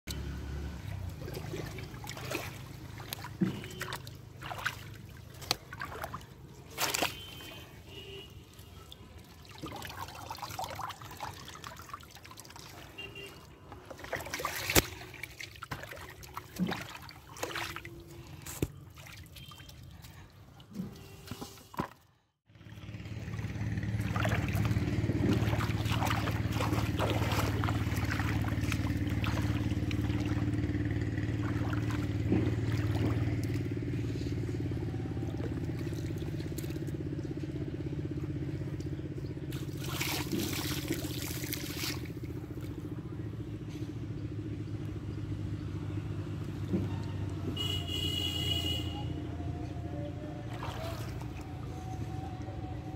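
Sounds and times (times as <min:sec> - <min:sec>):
low engine hum: 0:00.0 - 0:21.7, 0:22.3 - 0:52.9
muddy water trickling and sloshing: 0:00.1 - 0:52.9
water splashing: 0:00.2 - 0:22.0, 0:22.6 - 0:42.9, 0:50.2 - 0:52.7.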